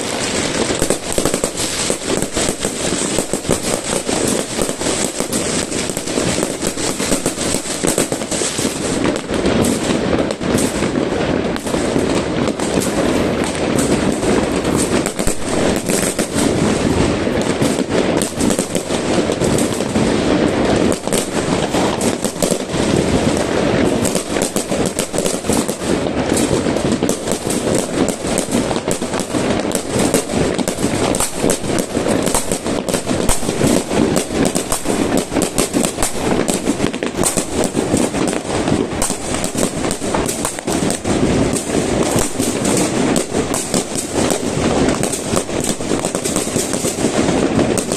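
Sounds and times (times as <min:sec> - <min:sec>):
distant explosions rumbling: 0:00.0 - 0:47.9
firecrackers crackling: 0:00.0 - 0:47.9.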